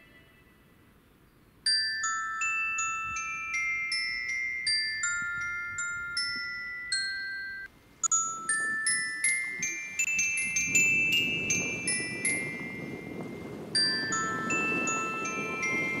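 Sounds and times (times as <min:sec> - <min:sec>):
bell-like chime melody: 0:01.7 - 0:16.0.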